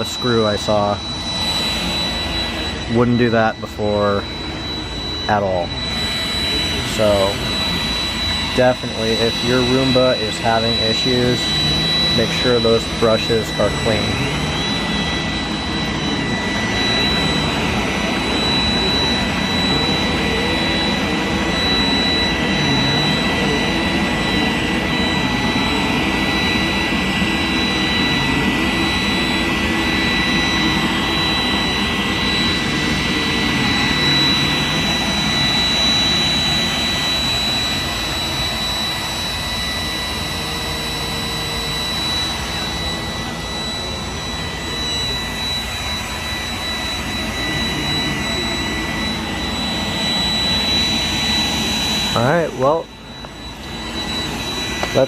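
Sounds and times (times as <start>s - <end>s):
robot vacuum running on carpet: 4.4s - 55.0s.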